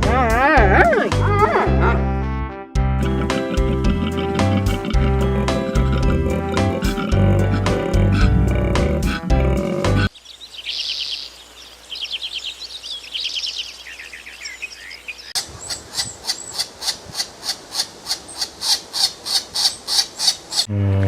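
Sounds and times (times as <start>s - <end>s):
birds chirping: 3.0s - 20.7s.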